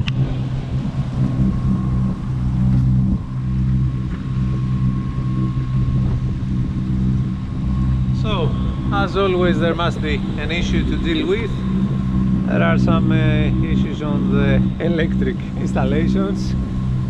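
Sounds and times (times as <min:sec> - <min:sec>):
boat engine running: 0:00.0 - 0:17.0
water rushing along hull: 0:00.0 - 0:17.0
wind: 0:00.0 - 0:17.0.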